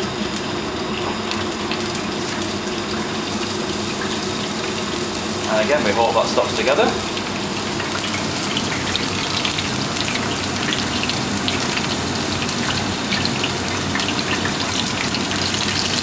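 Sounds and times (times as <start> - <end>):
oil sizzling in a deep fryer: 0.0 - 16.0.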